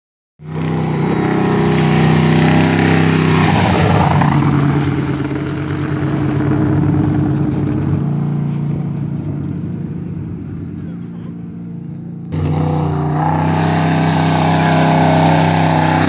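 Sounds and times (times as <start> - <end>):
race truck engine running loudly: 0.4 - 16.0.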